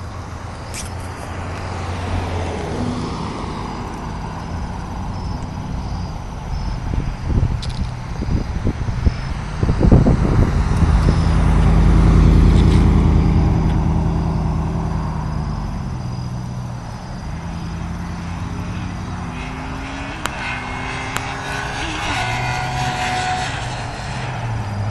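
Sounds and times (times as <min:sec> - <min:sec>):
faint engine shifting up gears: 0:00.0 - 0:24.9
motorcycle engine pulling away: 0:01.9 - 0:24.9.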